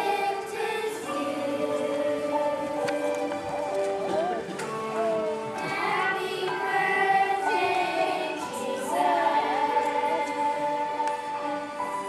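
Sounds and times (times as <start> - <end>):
children's choir singing: 0.0 - 12.0.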